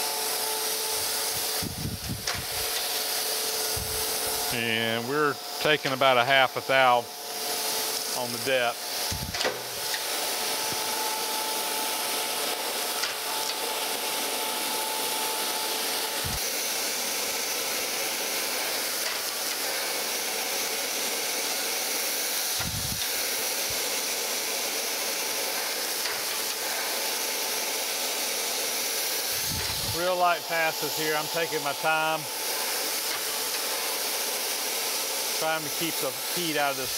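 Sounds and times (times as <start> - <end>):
grinding wheel hiss: 0.0 - 36.9.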